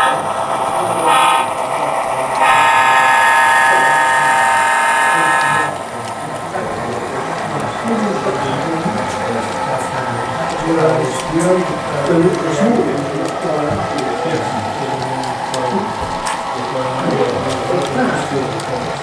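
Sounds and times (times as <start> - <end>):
background hall noise: 0.0 - 19.0
buzzy train sound from speaker: 0.0 - 19.0.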